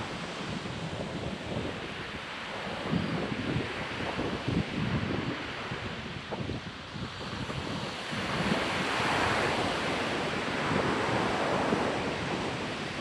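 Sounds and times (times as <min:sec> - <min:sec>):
ocean surf washing onto beach: 0:00.0 - 0:13.0
wind buffeting microphone: 0:00.0 - 0:13.0.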